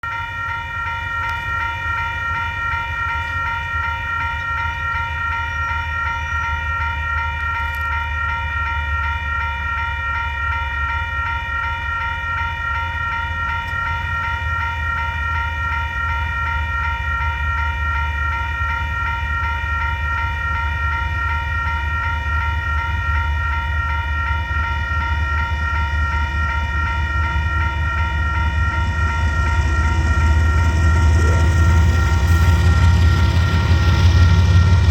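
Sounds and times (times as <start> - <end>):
freight train rumbling past: 0.0 - 34.9
steady high ringing: 0.0 - 34.9.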